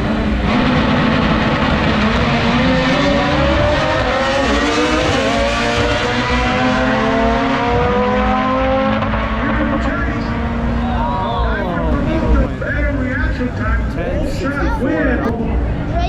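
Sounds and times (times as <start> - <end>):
drag race engines at full throttle: 0.0 - 16.0.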